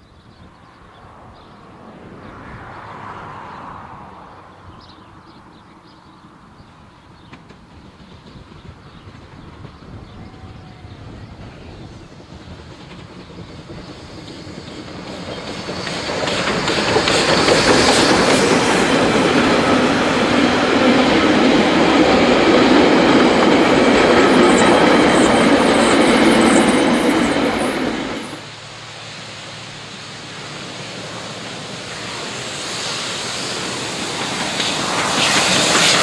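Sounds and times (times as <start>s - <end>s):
steam train passing: 0.0s - 36.0s.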